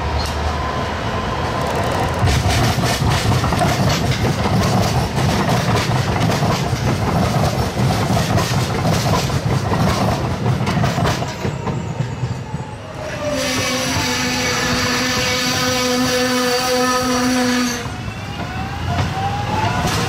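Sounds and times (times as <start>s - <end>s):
light rail train running: 0.0s - 20.0s.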